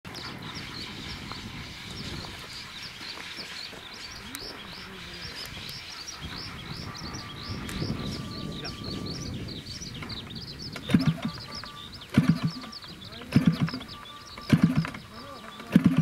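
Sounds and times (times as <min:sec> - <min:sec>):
bird chirping rapidly: 0:00.1 - 0:16.0.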